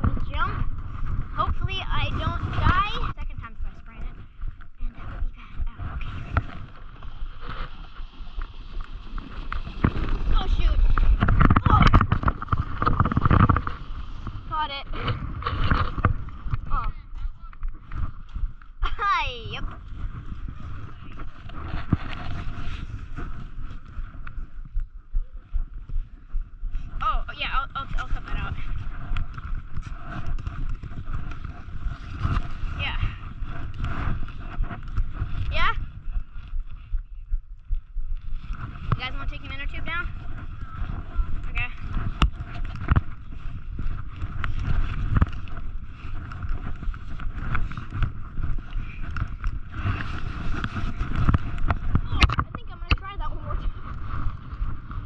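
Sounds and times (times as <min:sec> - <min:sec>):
rustling: 0:00.0 - 0:24.6, 0:26.2 - 0:37.0, 0:38.0 - 0:55.0
wind buffeting microphone: 0:00.0 - 0:55.0.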